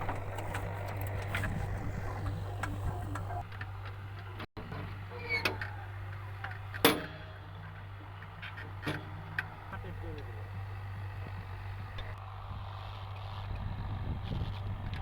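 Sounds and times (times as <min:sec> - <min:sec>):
tractor diesel engine idling: 0:00.0 - 0:14.1.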